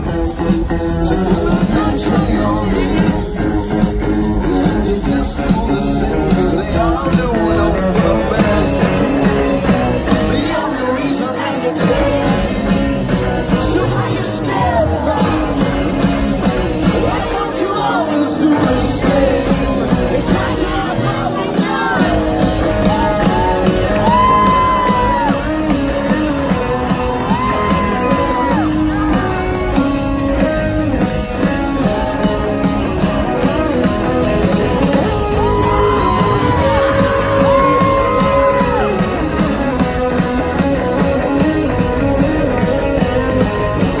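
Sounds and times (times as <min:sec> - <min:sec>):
live rock band: 0:00.0 - 0:44.0
person singing: 0:00.0 - 0:44.0.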